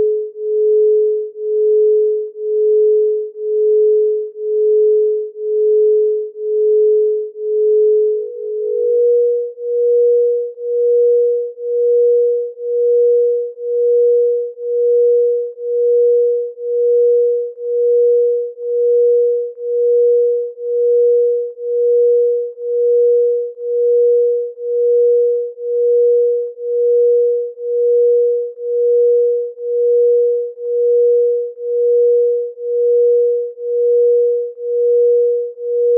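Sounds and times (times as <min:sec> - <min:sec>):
pulsing electronic sine tone: 0:00.0 - 0:35.9.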